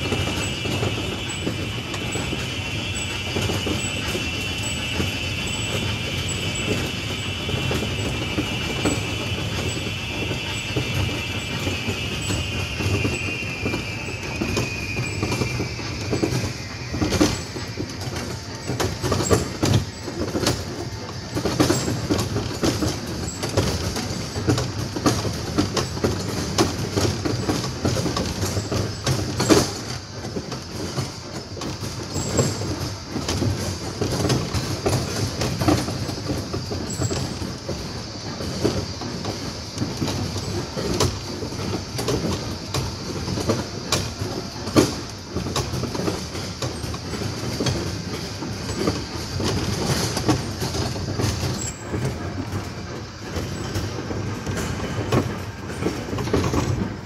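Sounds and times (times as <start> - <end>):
high wheel squeal: 0.0 - 45.0, 45.6 - 56.9
small train rumbling: 0.0 - 57.0.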